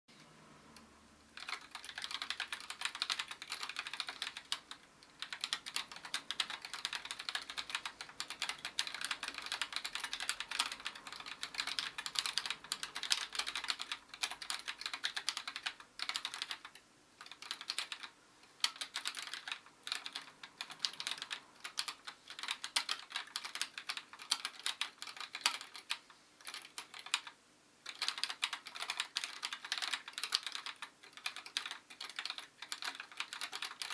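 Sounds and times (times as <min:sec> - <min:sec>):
fast typing on mechanical keyboard: 0:01.4 - 0:33.9.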